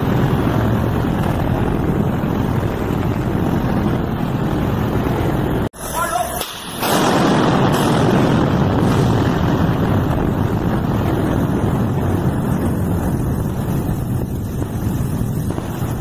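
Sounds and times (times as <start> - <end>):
explosion air blast rushing: 0.0 - 5.9, 6.5 - 16.0.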